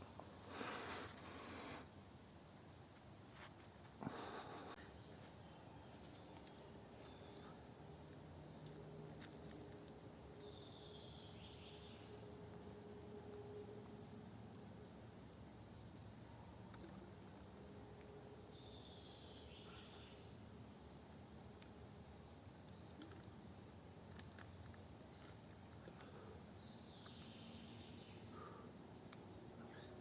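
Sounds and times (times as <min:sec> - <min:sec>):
low steady background hiss: 0:00.0 - 0:30.0
faint birdsong: 0:04.0 - 0:30.0.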